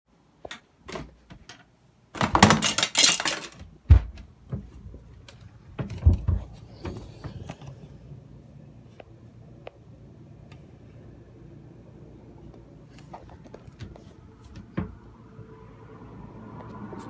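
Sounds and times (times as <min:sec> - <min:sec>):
air conditioner humming: 0:00.1 - 0:17.0.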